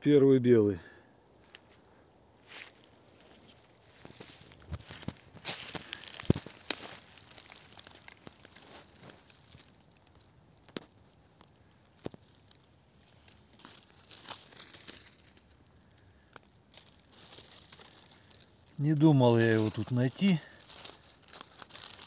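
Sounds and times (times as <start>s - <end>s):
dry leaves rustling and crackling: 2.4s - 22.0s
twigs snapping: 2.4s - 22.0s.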